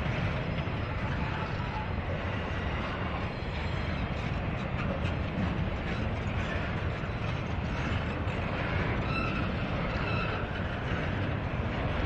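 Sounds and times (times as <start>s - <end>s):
freight train wheels rumbling on rail: 0.0s - 12.0s
high train squeals: 0.0s - 12.0s.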